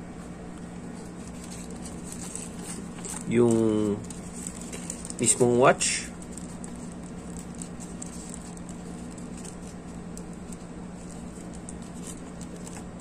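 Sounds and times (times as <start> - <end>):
plastic pouch crinkling: 0.9 - 13.0.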